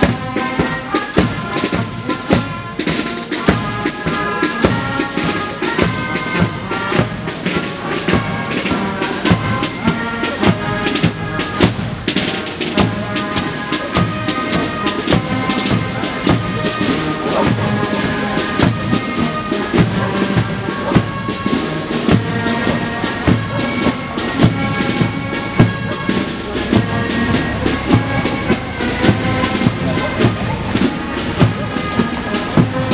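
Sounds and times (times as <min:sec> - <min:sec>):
marching band playing: 0:00.0 - 0:32.9
snare drum beating: 0:00.0 - 0:32.9.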